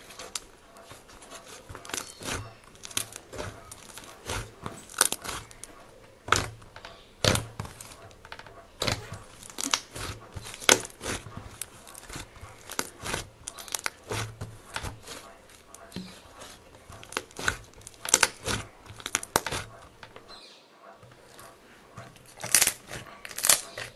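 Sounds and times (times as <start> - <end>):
slime kneaded by hand: 0.0 - 20.4, 21.0 - 23.9.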